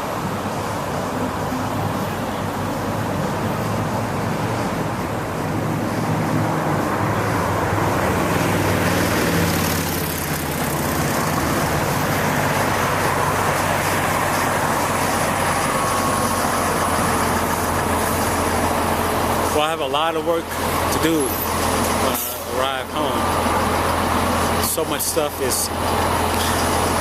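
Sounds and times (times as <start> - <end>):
cars passing: 0.0 - 27.0
vehicle engines running: 0.0 - 27.0.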